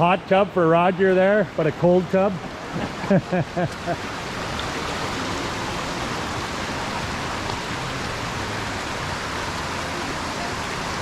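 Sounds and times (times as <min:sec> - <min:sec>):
waterfall rushing: 0:01.4 - 0:11.0.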